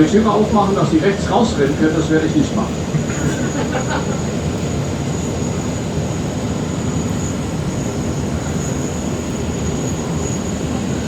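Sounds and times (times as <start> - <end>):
bus engine idling: 0.0 - 11.0
jet engines rumbling with whine: 0.0 - 11.0.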